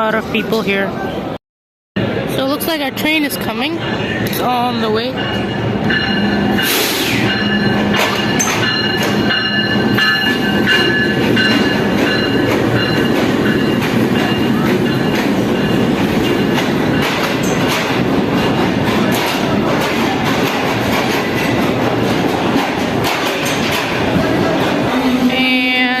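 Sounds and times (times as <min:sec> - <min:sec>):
train wheels clacking over rail joints: 0:05.2 - 0:26.0.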